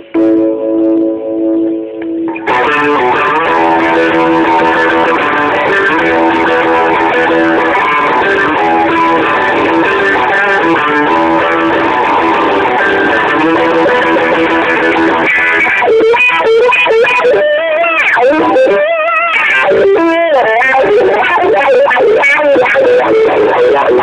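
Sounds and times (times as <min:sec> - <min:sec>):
loud electric guitar riffing: 0:00.0 - 0:24.0.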